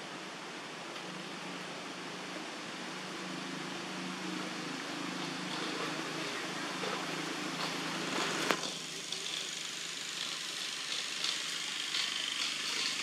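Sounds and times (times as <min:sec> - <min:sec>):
low engine hum: 0:00.0 - 0:13.0
steady high outdoor hiss: 0:00.0 - 0:13.0.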